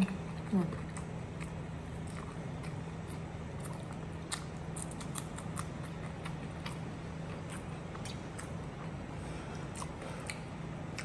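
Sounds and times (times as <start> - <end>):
steady low hum: 0.0 - 11.0
chewing mouth clicks: 0.3 - 11.0.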